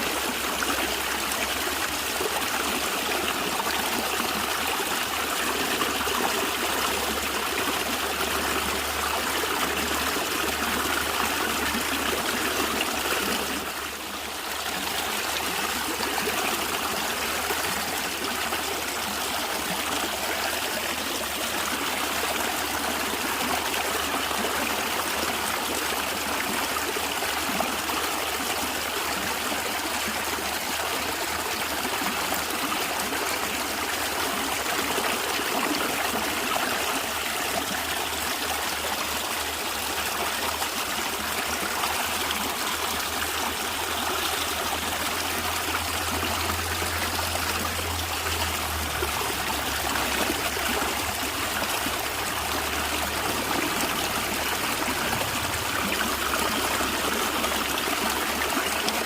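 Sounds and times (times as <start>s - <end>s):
stream gurgling over stones: 0.0s - 59.0s.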